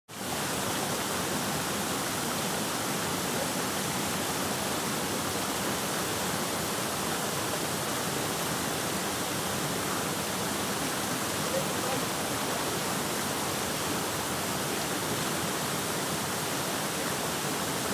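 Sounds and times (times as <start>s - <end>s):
waterfall rushing: 0.1s - 17.9s.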